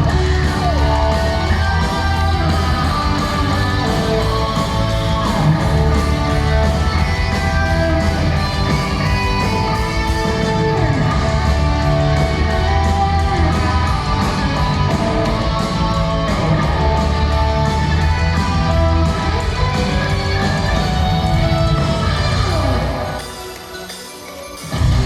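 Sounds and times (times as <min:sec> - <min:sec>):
fast drum beat: 0:00.0 - 0:22.8
electric guitars: 0:00.0 - 0:25.0.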